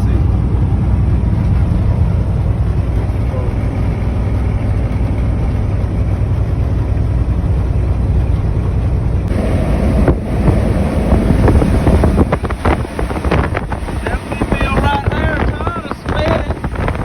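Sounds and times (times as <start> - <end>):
truck engine and road rumble: 0.0 - 17.0
wind on microphone: 0.0 - 17.0.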